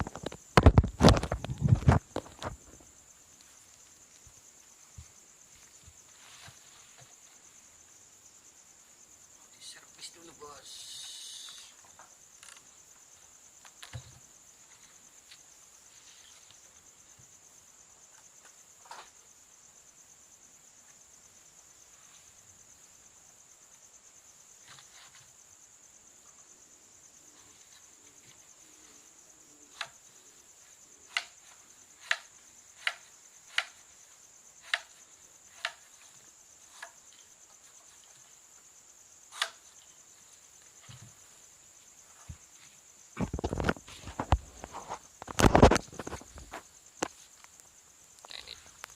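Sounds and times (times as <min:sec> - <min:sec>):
crickets chirring: 0:00.0 - 0:48.9.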